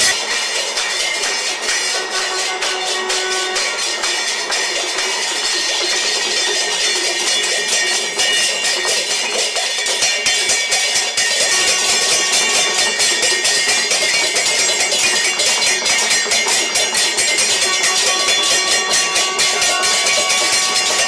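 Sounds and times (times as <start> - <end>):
hand cymbals clanging: 0.0 - 21.0
temple bells clanging: 0.0 - 21.0.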